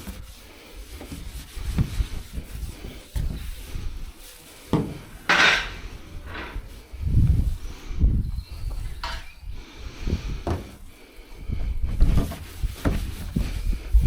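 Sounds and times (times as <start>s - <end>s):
rubbing and knocking on bodywork: 0.0s - 9.3s, 10.0s - 10.9s, 11.5s - 14.0s.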